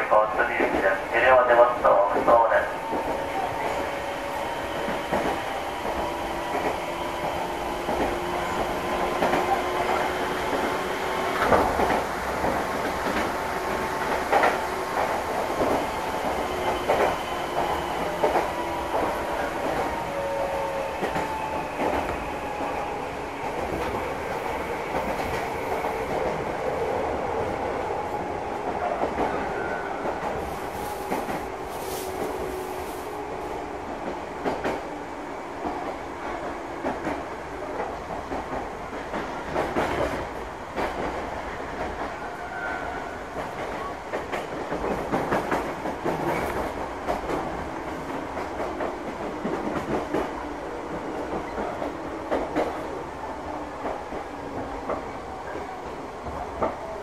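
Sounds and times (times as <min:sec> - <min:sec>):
train rumble inside passenger car: 0:00.0 - 0:57.0.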